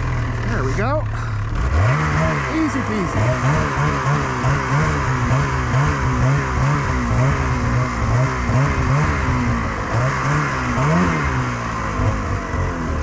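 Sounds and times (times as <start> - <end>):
snowmobile engine revving: 1.4 - 12.7.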